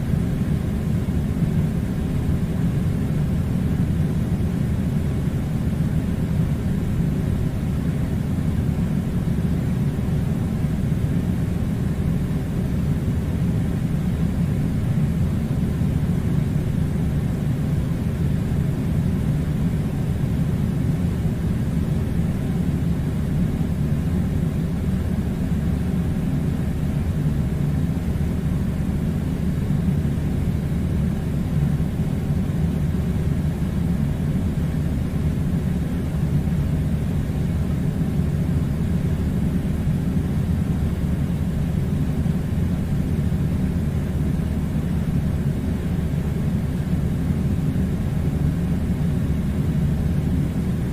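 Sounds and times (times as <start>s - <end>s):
air conditioner rumble: 0.0s - 50.9s.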